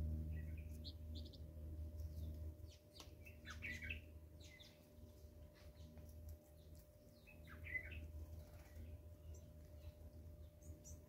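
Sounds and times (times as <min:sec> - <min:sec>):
birds chirping faintly: 0:00.0 - 0:11.0
low steady rumble: 0:00.0 - 0:11.0.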